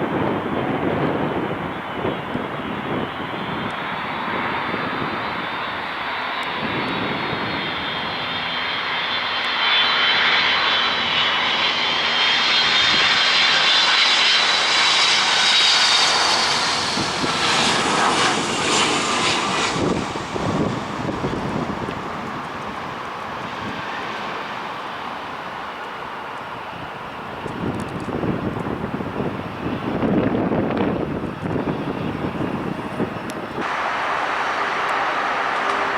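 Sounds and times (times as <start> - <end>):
jet engines roaring: 0.0 - 35.9.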